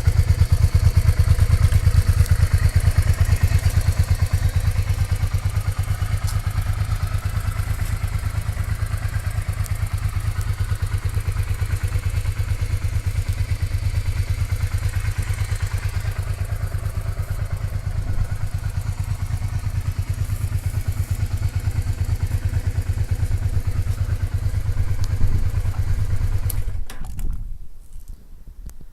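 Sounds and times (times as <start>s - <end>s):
motorcycle engine idling: 0.0s - 27.2s.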